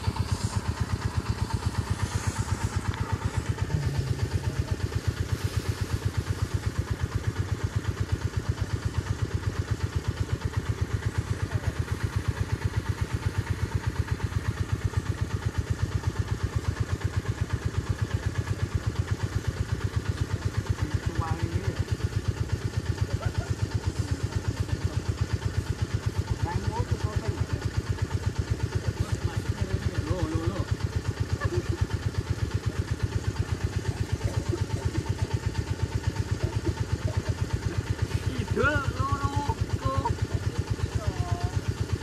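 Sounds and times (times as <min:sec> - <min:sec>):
engine idling with steady chugging: 0:00.0 - 0:42.0.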